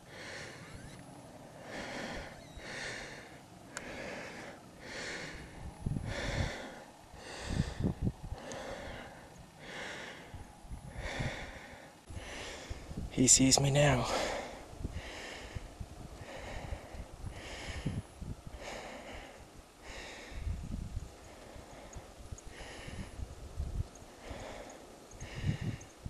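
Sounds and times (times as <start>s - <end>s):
person breathing hard: 0.0s - 0.8s, 1.4s - 13.1s, 14.0s - 23.2s, 24.1s - 26.0s.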